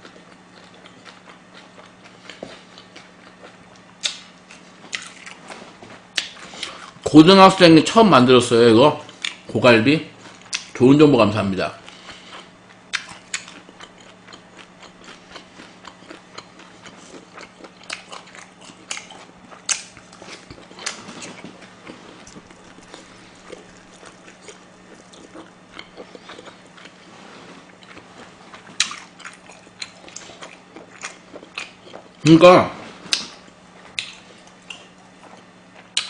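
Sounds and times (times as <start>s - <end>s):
person chewing and smacking food: 0.0s - 7.0s, 9.0s - 9.5s, 10.1s - 36.0s.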